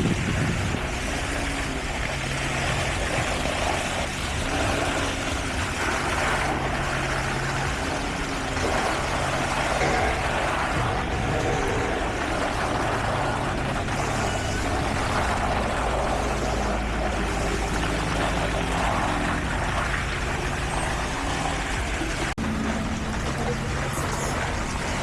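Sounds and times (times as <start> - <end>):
diesel machinery engine drone: 0.0 - 25.0.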